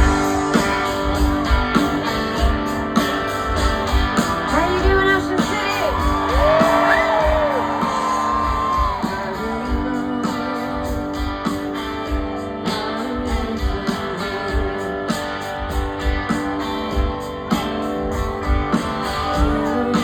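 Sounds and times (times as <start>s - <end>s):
live rock band playing: 0.0s - 20.0s
steady drum beat: 0.0s - 20.0s.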